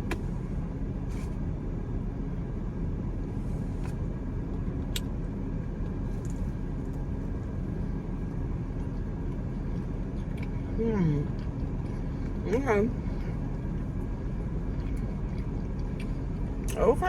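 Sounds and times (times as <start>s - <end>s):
car idling with air conditioning: 0.0s - 17.0s.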